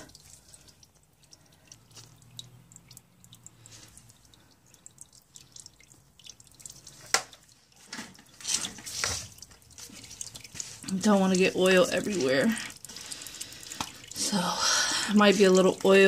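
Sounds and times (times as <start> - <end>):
oil dripping into a pan: 0.0 - 16.0.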